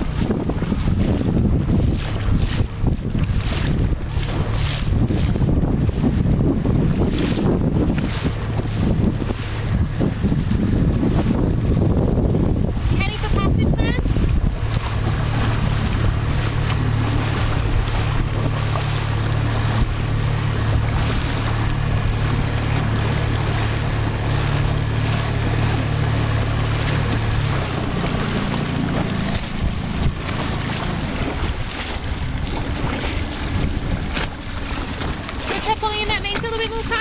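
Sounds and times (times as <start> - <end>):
outboard motor humming: 0.0 - 37.0
water washing: 0.0 - 37.0
wind on microphone: 0.0 - 37.0.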